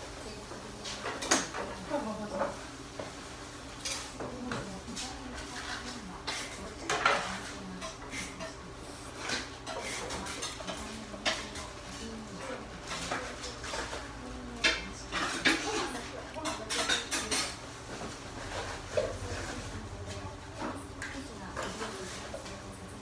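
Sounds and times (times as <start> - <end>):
faint background talk: 0.0 - 23.0
dishes and utensils clinking: 0.8 - 3.2, 5.3 - 23.0.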